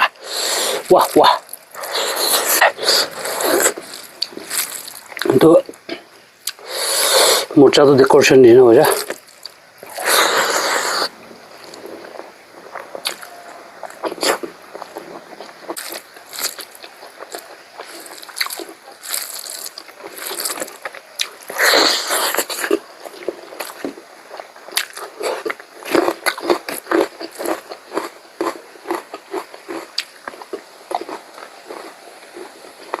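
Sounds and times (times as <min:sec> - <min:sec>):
person chewing: 0:00.0 - 0:07.6, 0:08.8 - 0:33.0.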